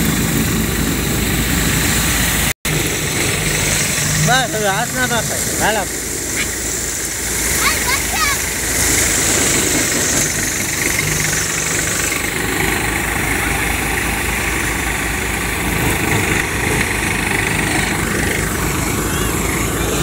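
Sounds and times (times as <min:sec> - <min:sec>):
tractor engine and thresher rattle: 0:00.0 - 0:20.0.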